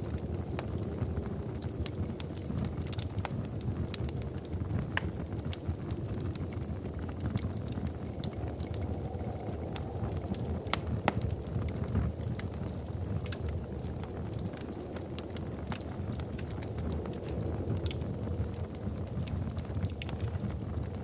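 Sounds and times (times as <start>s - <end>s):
low fire rumble: 0.0s - 21.0s
wood fire crackling: 0.0s - 21.0s.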